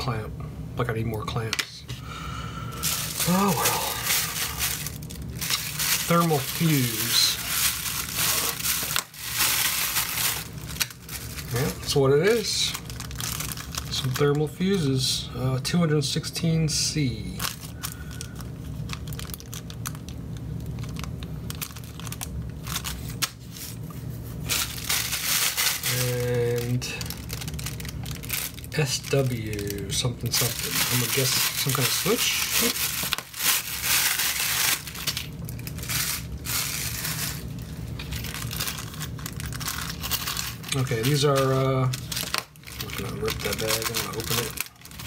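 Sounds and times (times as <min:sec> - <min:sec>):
steady low hum: 0:00.0 - 0:45.0
plastic bag crinkling: 0:02.7 - 0:14.9, 0:17.0 - 0:45.0.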